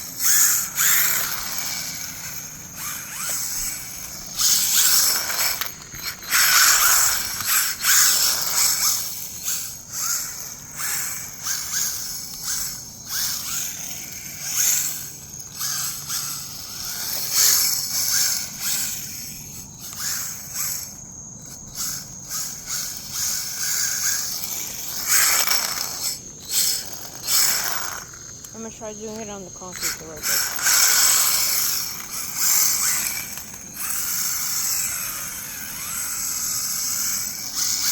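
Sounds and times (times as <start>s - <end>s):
rc car drivetrain whining: 0.0s - 37.9s.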